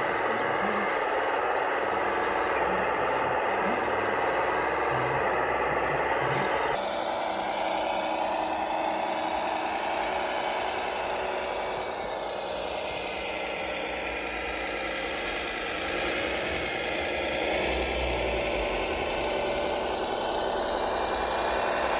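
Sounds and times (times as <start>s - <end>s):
model motors whining and rattling: 0.0s - 21.9s.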